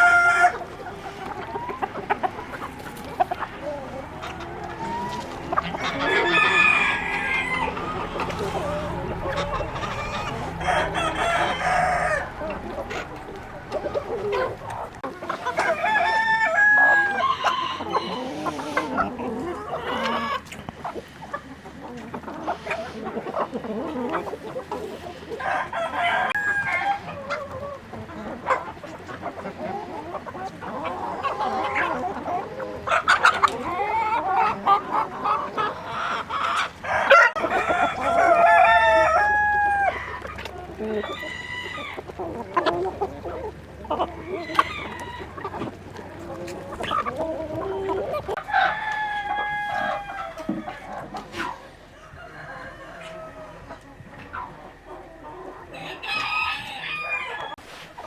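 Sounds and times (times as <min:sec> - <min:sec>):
roosters crowing: 0:00.0 - 0:57.8
chickens clucking: 0:00.0 - 0:58.0.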